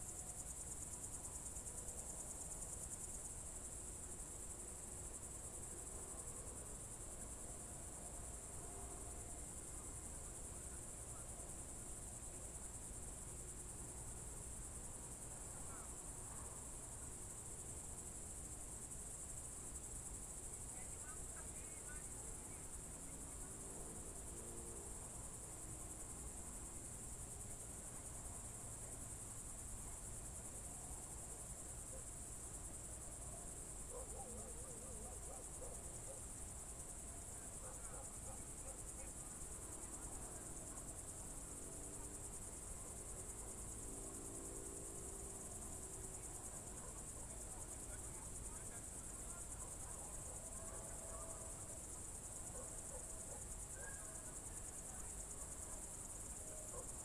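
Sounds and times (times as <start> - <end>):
crickets chirring: 8.3 - 57.0.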